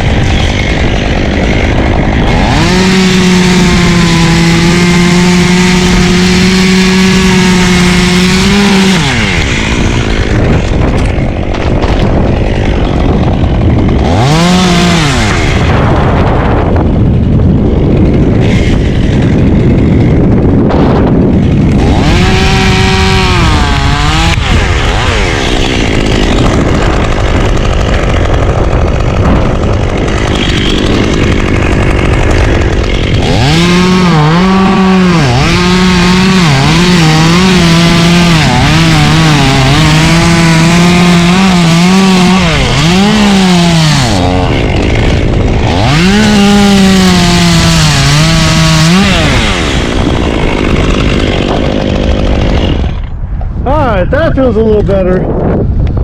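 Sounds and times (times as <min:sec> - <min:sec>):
chainsaw revving and cutting wood: 0:00.0 - 0:56.0
wind noise on microphone: 0:00.0 - 0:56.0.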